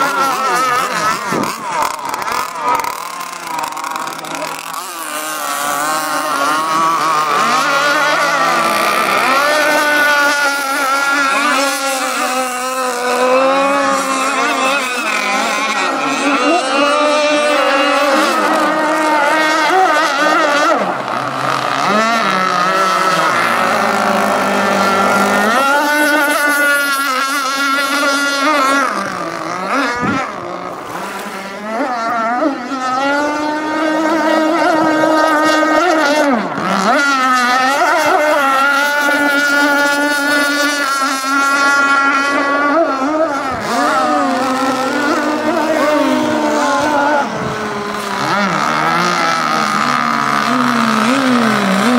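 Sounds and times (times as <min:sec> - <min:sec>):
rc boat motor whining: 0:00.0 - 0:51.9.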